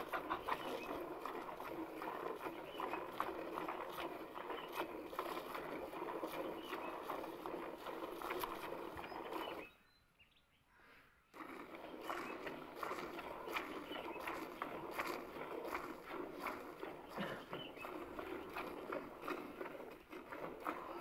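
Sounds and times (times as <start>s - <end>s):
milk squirting into bucket: 0.0s - 9.7s, 11.3s - 21.0s.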